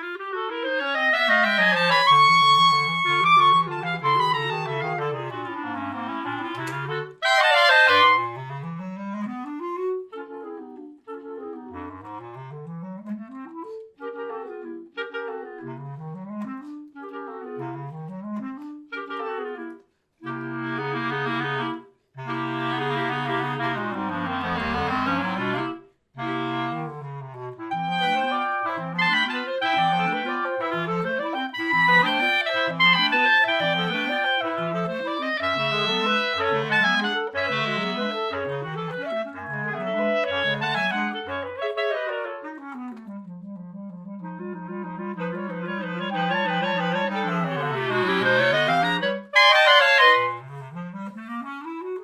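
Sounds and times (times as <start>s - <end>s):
clarinet quartet playing: 0.0s - 10.6s, 20.3s - 52.0s.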